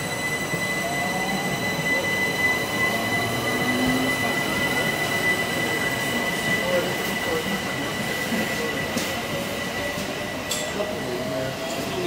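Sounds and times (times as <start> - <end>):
high-pitched train whine: 0.0 - 12.0
train wheels rumbling on rails: 0.0 - 12.0.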